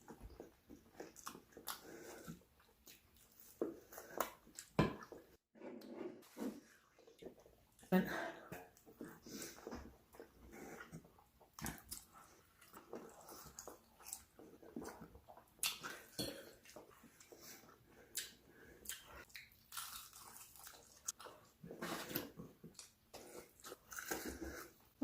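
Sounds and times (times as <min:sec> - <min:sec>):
chewing and biting food: 0:00.0 - 0:05.2, 0:08.8 - 0:24.8.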